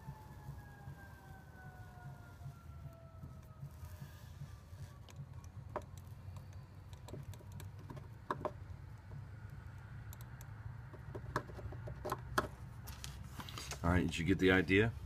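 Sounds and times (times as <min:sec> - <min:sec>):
low background rumble: 0:00.0 - 0:13.4.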